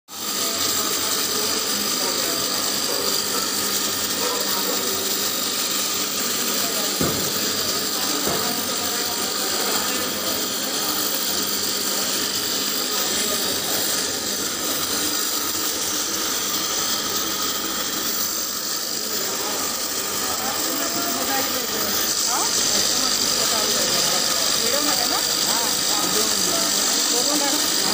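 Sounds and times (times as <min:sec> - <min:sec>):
extruder machine hissing: 0:00.1 - 0:27.9.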